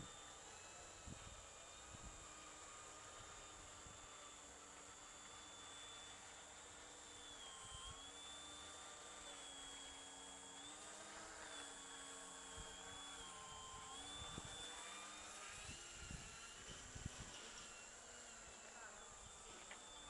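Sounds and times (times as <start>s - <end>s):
model plane motor whine: 0.0s - 20.0s.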